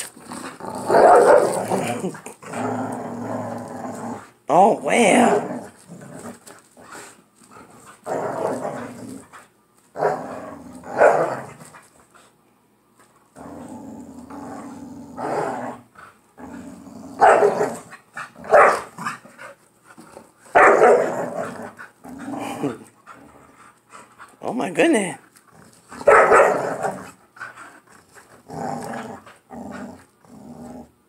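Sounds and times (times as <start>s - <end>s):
dogs barking and snarling: 0.0s - 12.4s, 13.4s - 24.4s, 25.3s - 31.0s
dogs growling: 0.0s - 12.4s, 13.3s - 24.4s, 25.3s - 31.0s.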